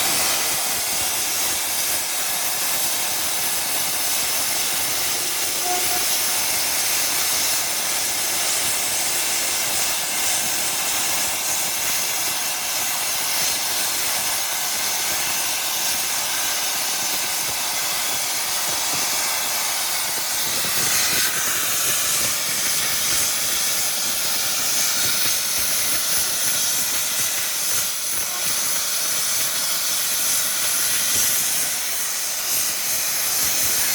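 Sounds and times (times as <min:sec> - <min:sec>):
plasma cutter hissing: 0:00.0 - 0:33.9.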